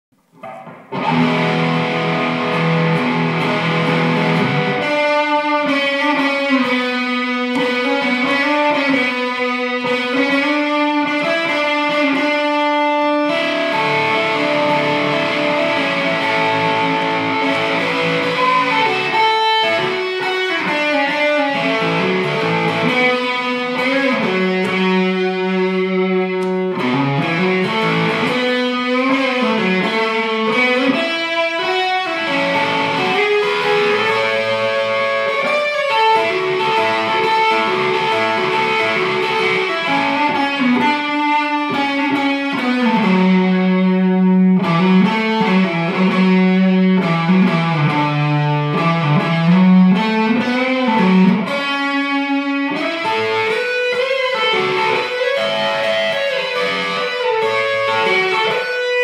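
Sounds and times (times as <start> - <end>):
electric guitar solo: 0.2 - 59.0.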